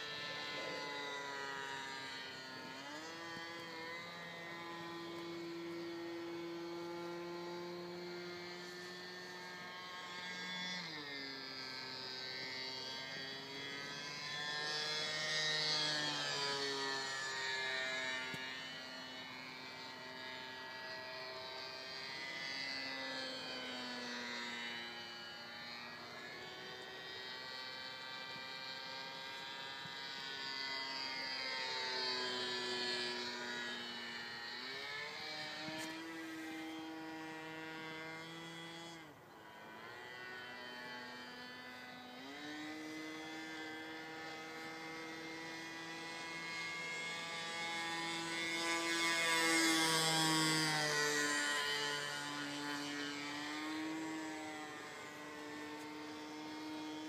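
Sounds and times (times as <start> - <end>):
model airplane engine buzzing: 0.0 - 57.0.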